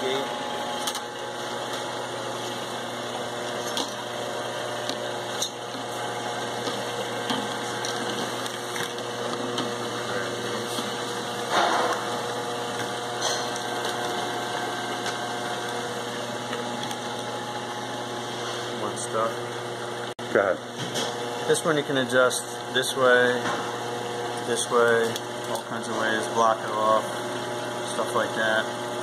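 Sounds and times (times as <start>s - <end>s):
motor and drive hum: 0.0s - 29.0s.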